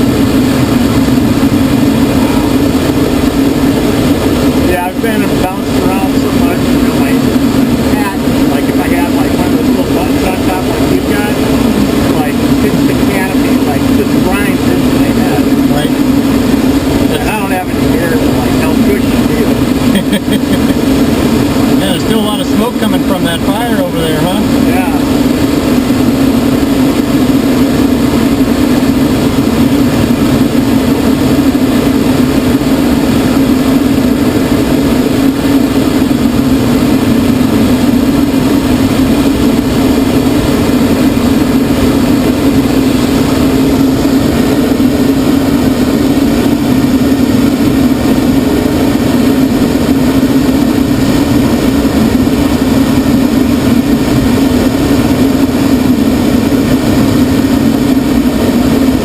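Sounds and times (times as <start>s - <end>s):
plane engine and propeller drone: 0.0s - 59.0s
rushing air: 0.0s - 59.0s.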